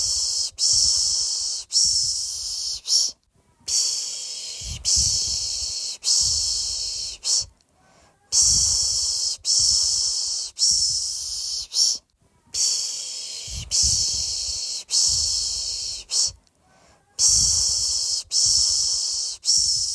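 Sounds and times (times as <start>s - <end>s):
person shushing a baby: 0.0s - 7.5s, 8.1s - 19.9s.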